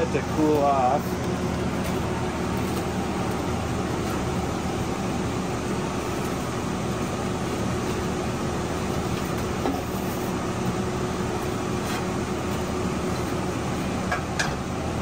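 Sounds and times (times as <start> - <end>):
blower fan air rushing: 0.0 - 15.0
faint constant hum: 0.0 - 15.0.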